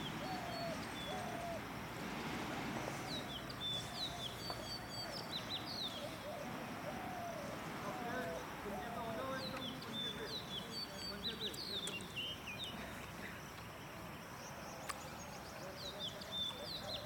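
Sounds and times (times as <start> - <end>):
outdoor hiss: 0.0 - 16.8.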